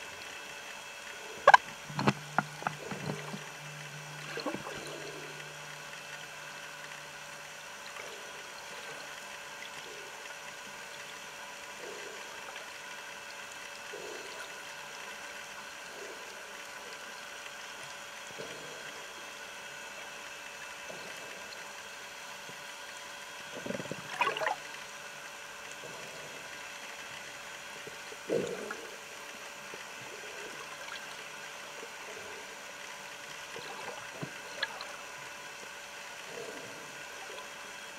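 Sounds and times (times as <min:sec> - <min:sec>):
low hum: 0:00.0 - 0:37.9.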